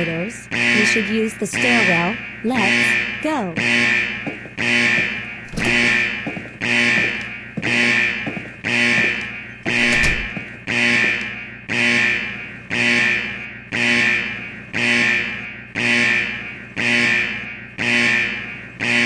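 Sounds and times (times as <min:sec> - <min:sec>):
fire alarm tone: 0:00.0 - 0:19.0.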